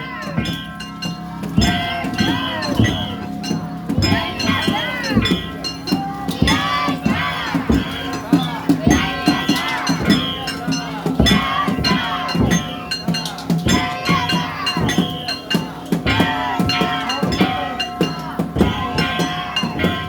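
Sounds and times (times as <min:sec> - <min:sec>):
clanging metal gongs: 0:00.0 - 0:20.0
drums beaten in a driving rhythm: 0:00.0 - 0:20.0.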